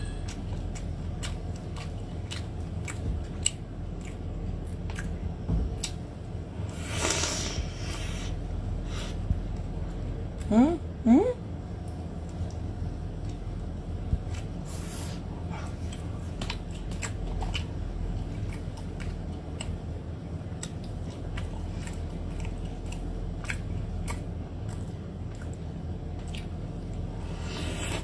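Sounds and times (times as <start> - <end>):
close-miked eating and chewing: 0.0 - 10.5, 11.5 - 28.0
steady low hum: 0.0 - 28.0.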